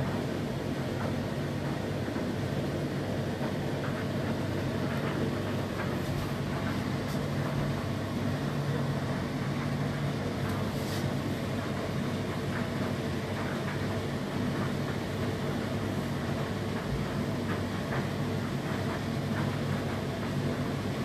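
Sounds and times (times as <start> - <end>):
dishwasher pump hum: 0.0 - 21.0.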